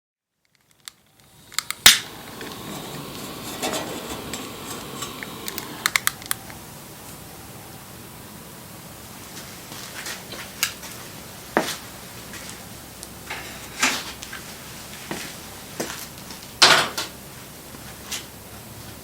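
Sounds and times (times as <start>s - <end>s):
wood fire crackling and popping: 0.5s - 6.6s, 9.2s - 18.5s.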